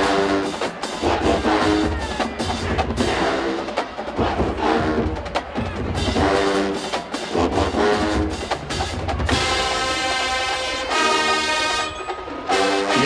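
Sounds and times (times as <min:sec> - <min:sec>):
brass chords: 0:00.0 - 0:05.4, 0:06.0 - 0:13.0.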